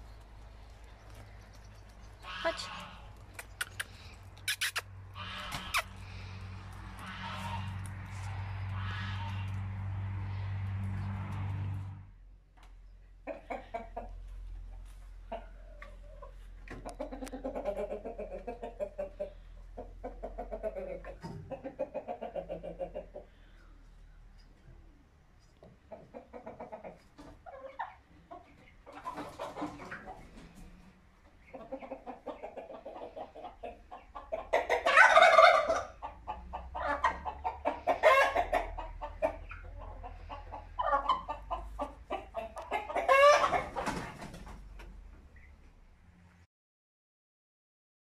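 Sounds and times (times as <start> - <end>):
chickens clucking: 0.0 - 45.7.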